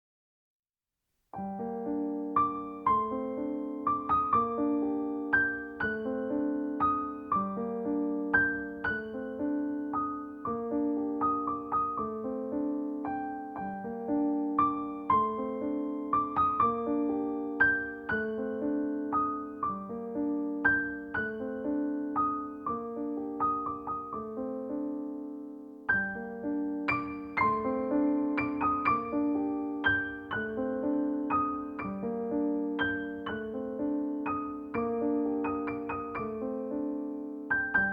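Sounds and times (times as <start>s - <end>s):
gentle solo piano: 1.3s - 37.9s.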